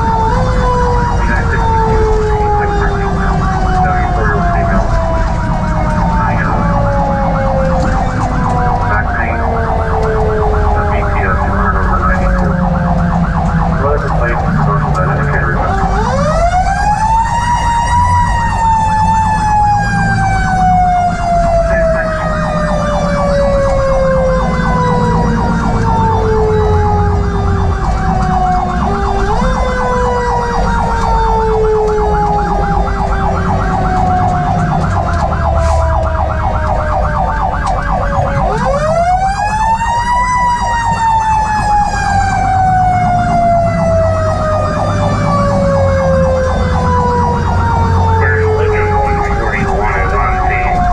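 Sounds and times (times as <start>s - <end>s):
fire engine engine: 0.0s - 50.9s
road noise: 0.0s - 50.9s.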